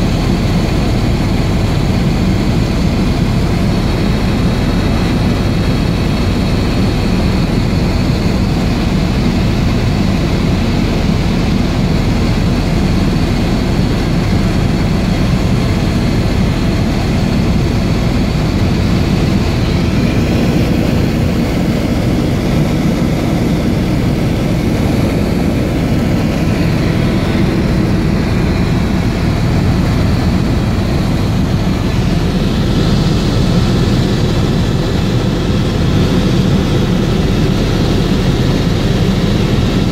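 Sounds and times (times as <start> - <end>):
helicopter engine and rotor: 0.0 - 39.9
high whine: 0.0 - 39.9.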